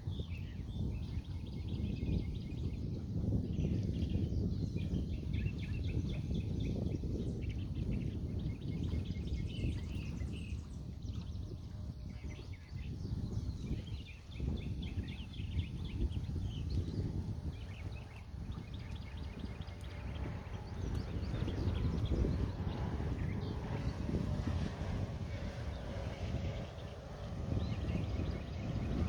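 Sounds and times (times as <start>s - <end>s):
small birds chirping: 0.0s - 29.0s
wind buffeting microphone: 0.0s - 29.0s.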